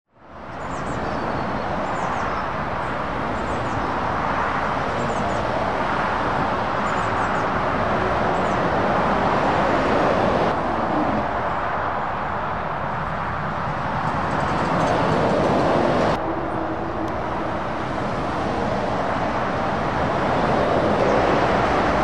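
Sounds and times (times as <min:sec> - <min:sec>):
motorway traffic rushing: 0:00.2 - 0:22.0
lorry passing close: 0:04.0 - 0:22.0.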